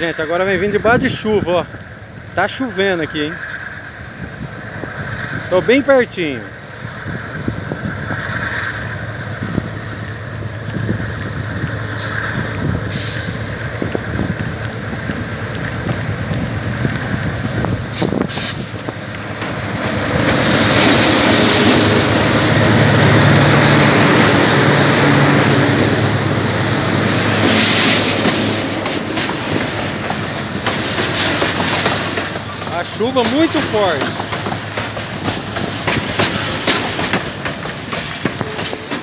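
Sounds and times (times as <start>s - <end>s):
locomotives passing: 0.0s - 39.0s.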